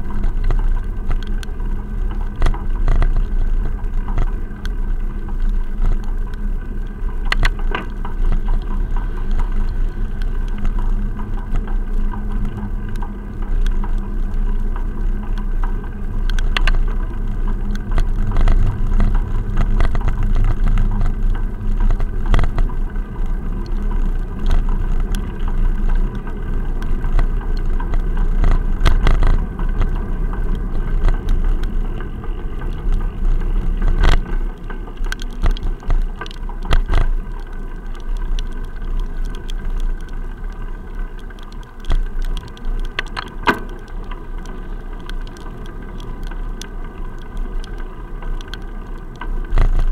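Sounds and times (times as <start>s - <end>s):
wheels rumbling on wet tarmac: 0.0s - 49.9s.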